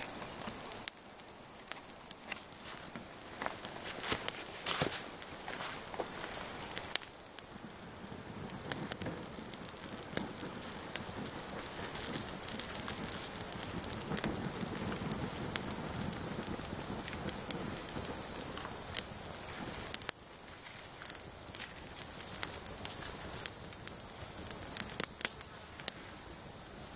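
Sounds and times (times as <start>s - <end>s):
sharp pops: 0.0s - 26.2s
fire crackling: 0.0s - 26.9s
fire hiss: 0.0s - 26.9s.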